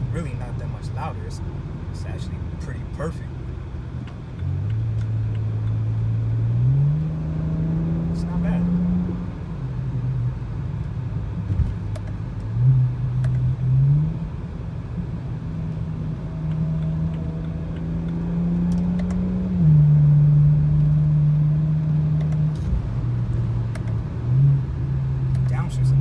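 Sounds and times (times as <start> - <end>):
car exhaust drone: 0.0 - 26.0.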